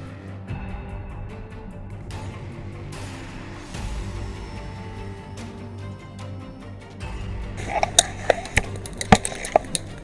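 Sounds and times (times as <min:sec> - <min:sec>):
background music with low bass: 0:00.0 - 0:10.0.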